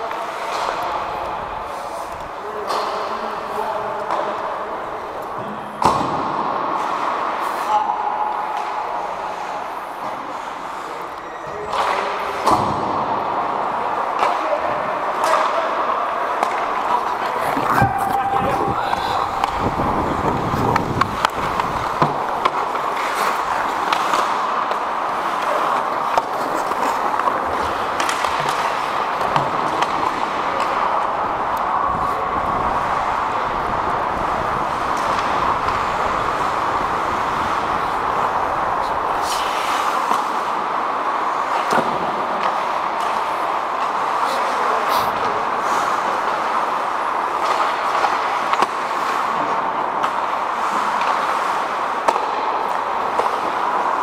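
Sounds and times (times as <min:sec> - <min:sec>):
hockey sticks and puck clacking: 0:00.0 - 0:54.0
skates on ice rink: 0:00.0 - 0:54.0.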